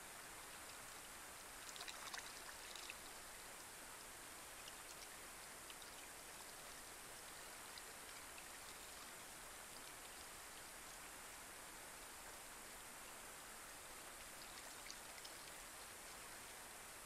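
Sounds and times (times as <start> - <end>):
light rain hiss on pond: 0.0 - 17.0.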